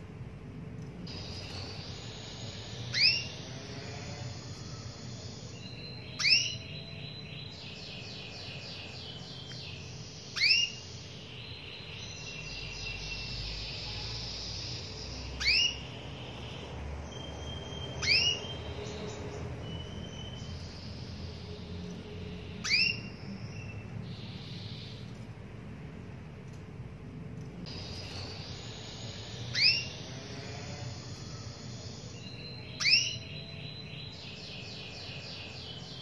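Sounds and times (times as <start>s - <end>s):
faint bird twittering: 0.8s - 36.0s.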